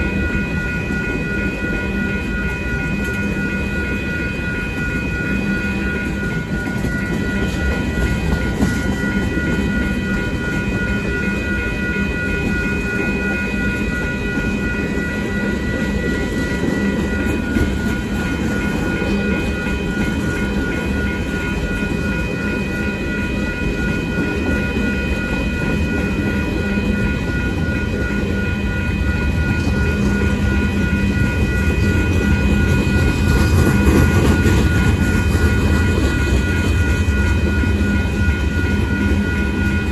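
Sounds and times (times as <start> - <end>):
freight train cars rumbling: 0.0 - 39.9
high-pitched ringing tones: 0.0 - 39.9.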